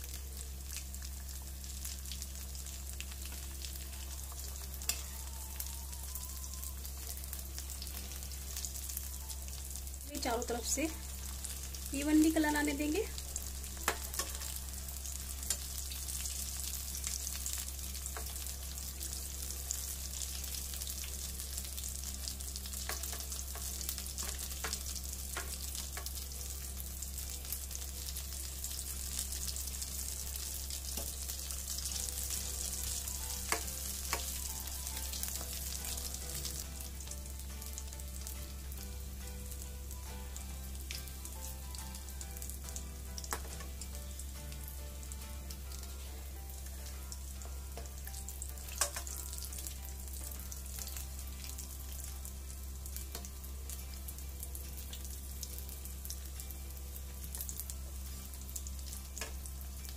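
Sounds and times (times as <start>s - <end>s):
food deep-frying in oil: 0.0s - 59.9s.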